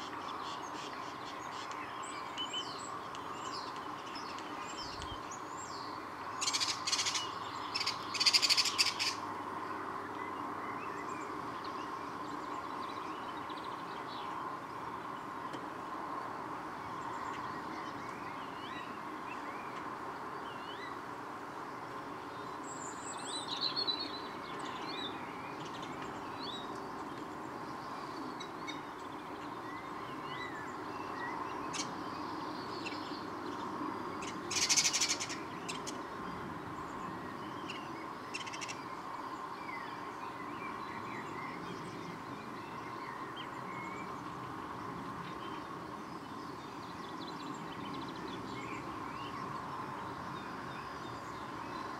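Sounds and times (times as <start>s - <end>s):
birds chirping: 0.0s - 15.5s, 22.2s - 51.9s.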